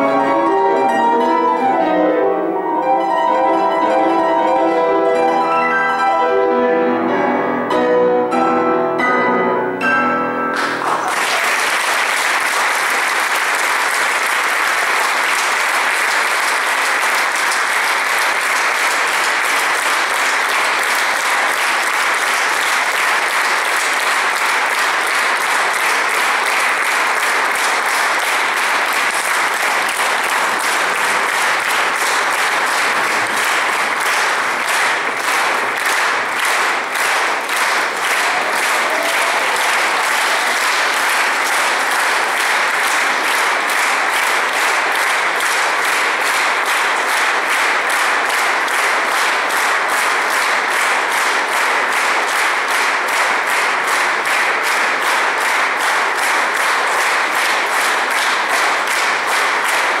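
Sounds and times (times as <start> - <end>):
audience applauding: 10.5 - 60.0.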